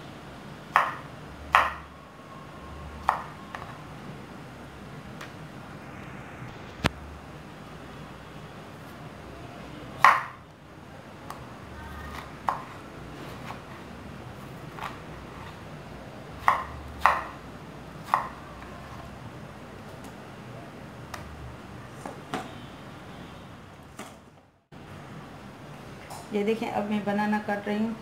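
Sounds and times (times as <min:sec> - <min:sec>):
faint background noise: 0:00.0 - 0:28.0.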